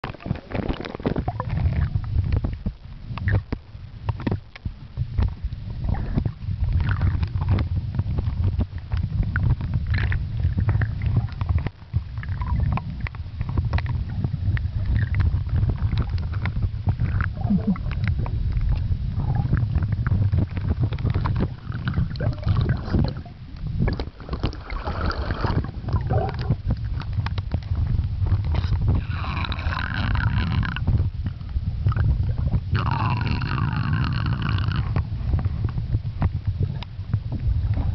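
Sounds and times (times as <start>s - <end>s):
small clicks and crackles: 0.0s - 37.9s
underwater rumble of moving water: 0.0s - 37.9s.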